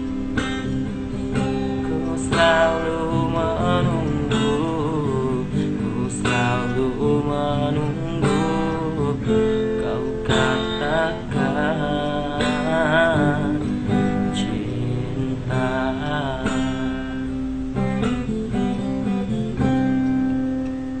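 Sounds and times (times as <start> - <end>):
acoustic guitar strumming: 0.0 - 21.0
man singing with vibrato: 0.8 - 20.0.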